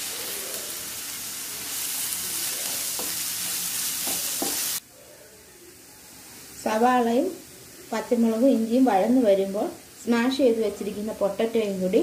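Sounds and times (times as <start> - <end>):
food sizzling in hot oil: 0.0 - 4.8, 5.7 - 12.0.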